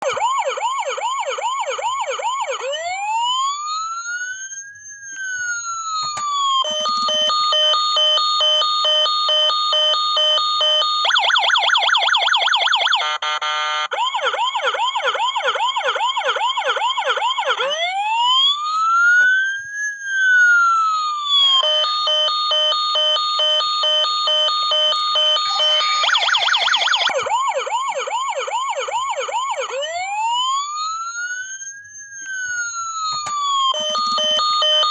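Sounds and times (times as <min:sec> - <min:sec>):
toy fire truck siren: 0:00.0 - 0:34.9.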